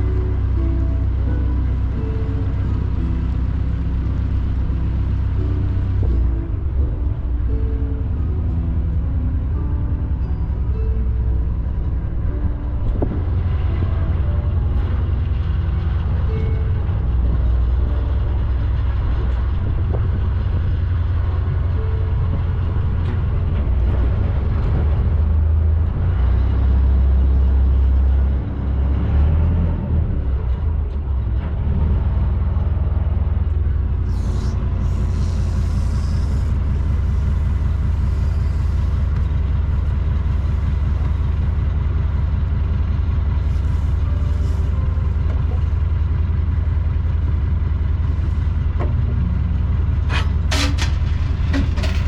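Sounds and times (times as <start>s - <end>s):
boat engine rumbling: 0.0s - 52.0s.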